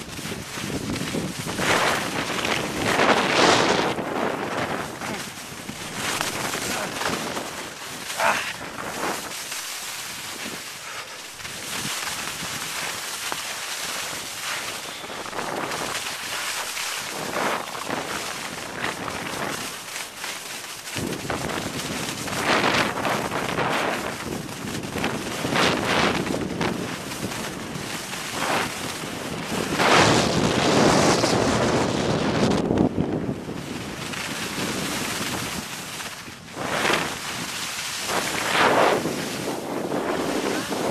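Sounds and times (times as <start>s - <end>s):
wind buffeting microphone: 0.0s - 13.1s, 13.8s - 19.8s, 20.9s - 40.9s
skis hissing on snow: 0.0s - 32.9s, 33.5s - 40.9s.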